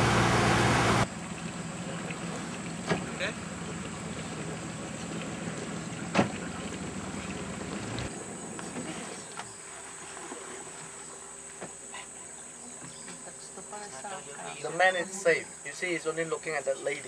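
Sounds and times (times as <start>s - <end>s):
boat motor humming: 0.0s - 13.8s.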